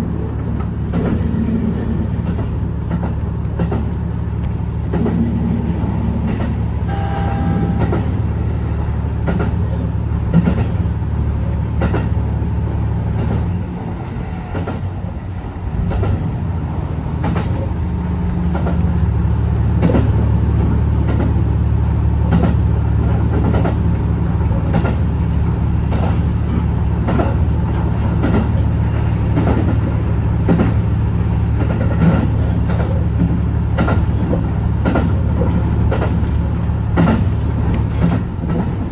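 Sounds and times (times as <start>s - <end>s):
wheels clicking over rail joints: 0.0s - 12.2s, 13.2s - 38.9s
train drivetrain drone: 0.0s - 38.9s.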